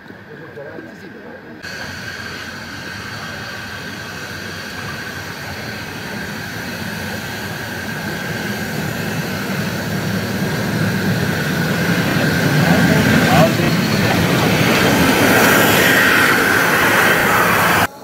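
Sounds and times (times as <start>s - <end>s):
locomotive wheels rumbling: 1.6s - 17.9s
steam hissing: 1.6s - 18.0s.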